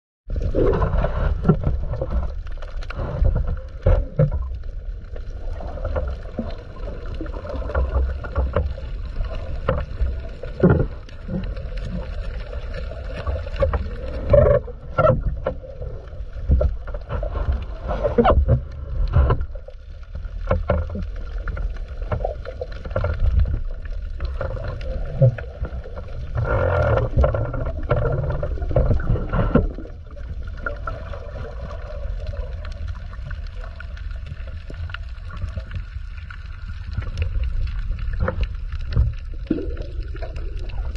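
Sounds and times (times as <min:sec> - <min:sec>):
underwater low rumble: 0:00.3 - 0:40.9.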